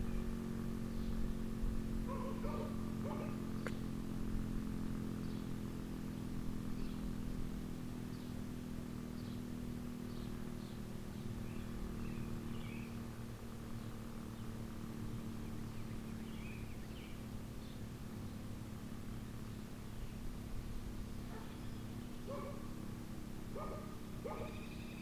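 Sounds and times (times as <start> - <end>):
small birds chirping: 0.0 - 25.0
steady low hum: 0.0 - 25.0.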